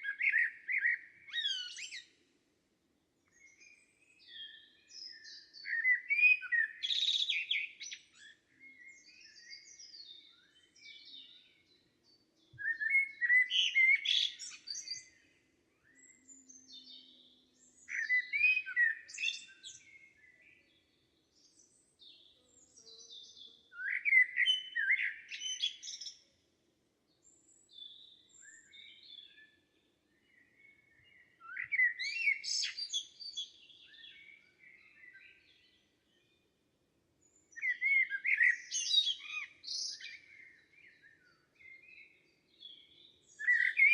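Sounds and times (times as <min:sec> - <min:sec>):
faint bird chirps: 0:00.0 - 0:02.2, 0:03.2 - 0:26.4, 0:27.2 - 0:36.5, 0:37.2 - 0:43.9
loud bird song phrase: 0:00.0 - 0:43.9.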